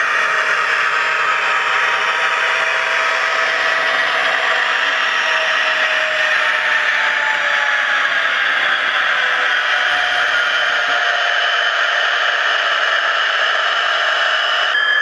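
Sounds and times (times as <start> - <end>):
model locomotive drone: 0.0 - 15.0.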